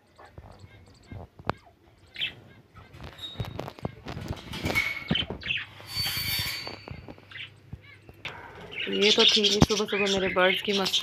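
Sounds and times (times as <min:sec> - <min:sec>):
parakeet chirps and squawks: 0:00.0 - 0:11.0.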